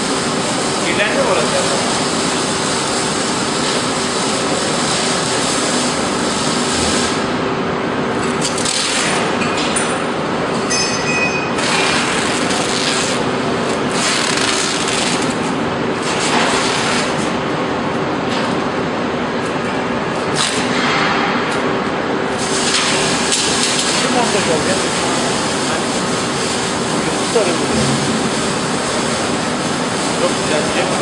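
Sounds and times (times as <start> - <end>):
workshop machinery hum: 0.0 - 31.0.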